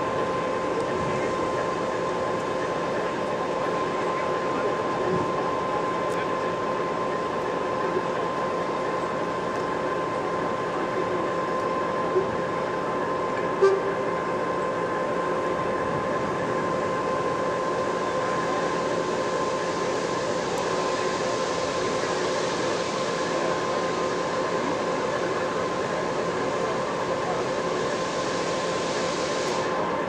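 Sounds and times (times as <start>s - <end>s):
locomotive engine whine: 0.0s - 30.0s.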